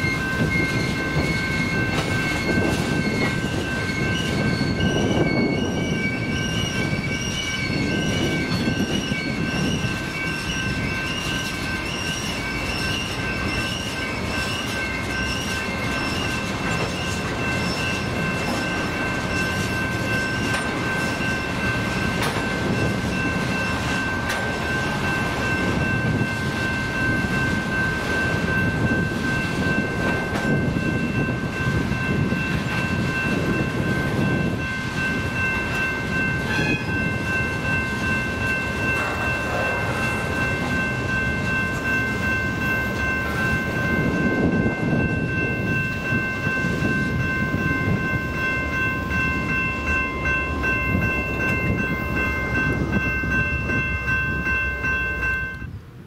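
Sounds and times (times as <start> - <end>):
crossing bell ringing: 0.0 - 56.0
freight train rumbling past: 0.0 - 56.0.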